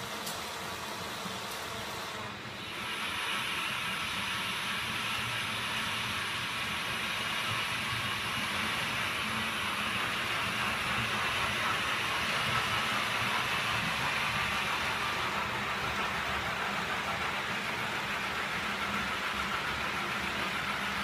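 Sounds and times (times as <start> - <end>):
model train motor whirring: 0.0 - 21.0
wheels hissing on rails: 0.0 - 21.0.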